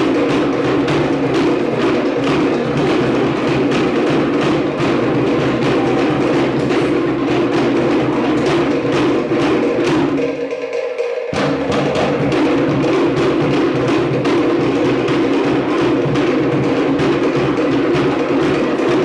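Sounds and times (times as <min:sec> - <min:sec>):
wooden log drums fast rhythm: 0:00.0 - 0:19.0.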